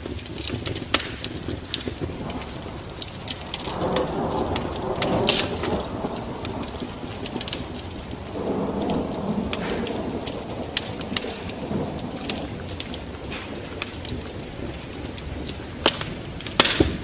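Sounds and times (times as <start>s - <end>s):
low rolling thunder: 0.0s - 17.0s
rain: 0.0s - 17.0s
sharp crackles: 0.0s - 17.0s.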